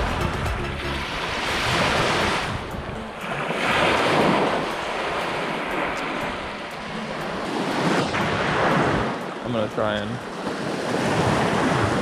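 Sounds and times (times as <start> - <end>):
waves washing onto sandy beach: 0.8 - 12.0.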